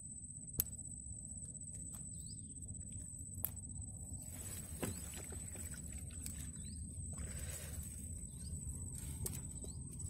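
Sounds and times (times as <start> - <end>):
high insect trill: 0.0 - 10.0
low outdoor rumble: 0.0 - 10.0.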